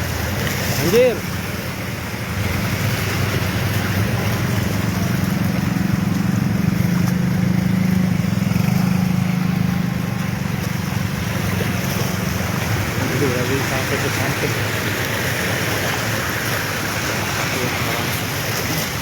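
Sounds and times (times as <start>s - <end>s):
hiss of water and rain: 0.0s - 19.0s
vehicle engine running low: 0.0s - 19.0s.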